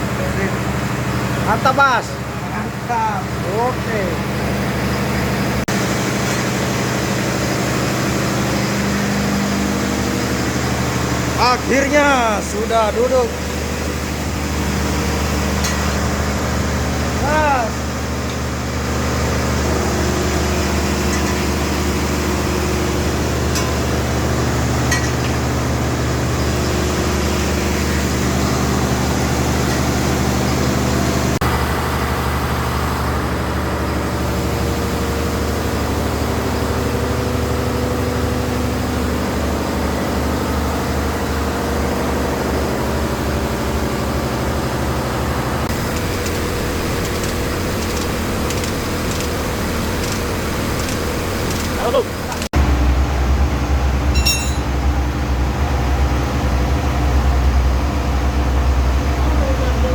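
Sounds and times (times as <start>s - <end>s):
engine running with low throb: 0.0s - 59.9s.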